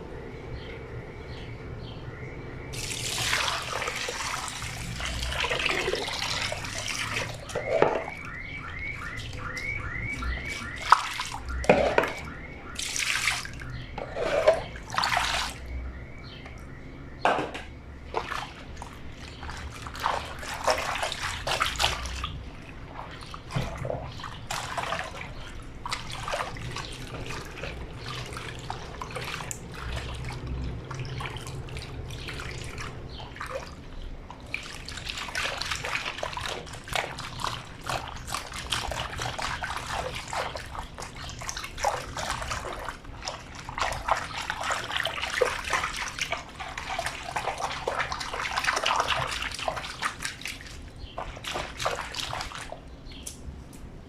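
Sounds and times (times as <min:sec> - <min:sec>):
water splashing and sloshing: 0:01.4 - 0:54.0
scrubbing: 0:02.8 - 0:15.6, 0:18.1 - 0:33.8, 0:34.4 - 0:52.8.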